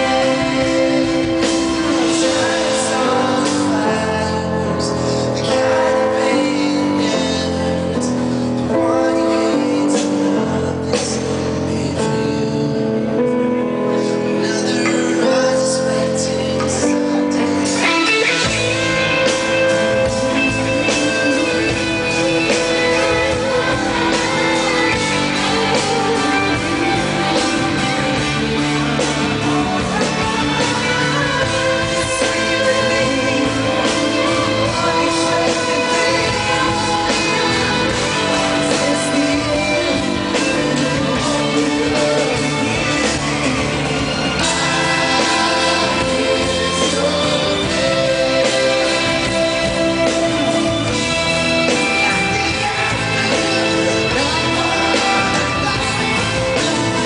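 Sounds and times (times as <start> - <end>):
band with bass and drums: 0.0 - 57.0
male vocal group singing: 0.0 - 57.0.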